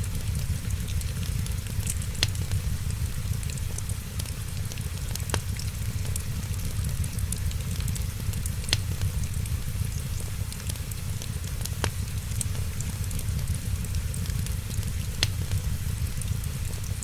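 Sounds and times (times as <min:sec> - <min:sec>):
wood fire crackling: 0:00.0 - 0:17.0
sharp fire pops: 0:00.1 - 0:17.0.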